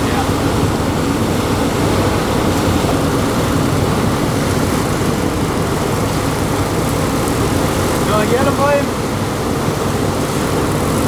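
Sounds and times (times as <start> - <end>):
boat engines rumbling: 0.0 - 11.0.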